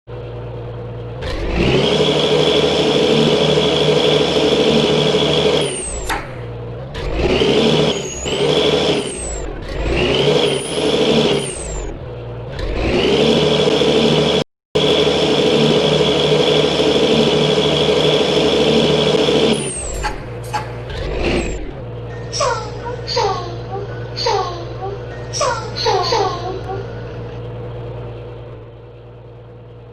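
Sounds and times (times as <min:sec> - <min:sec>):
bus engine revving: 0:00.1 - 0:29.9.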